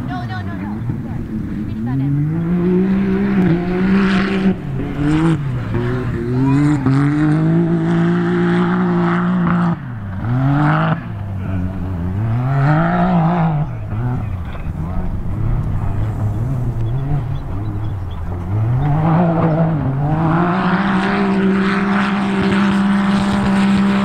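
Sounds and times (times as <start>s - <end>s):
race engine revving: 0.0s - 24.0s.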